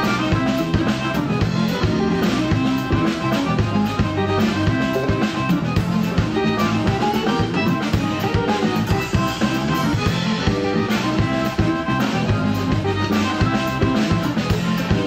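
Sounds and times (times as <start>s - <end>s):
accordion: 0.0s - 15.0s
drum kit beat: 0.0s - 15.0s
electric bass: 0.0s - 15.0s
electric guitar: 0.0s - 15.0s.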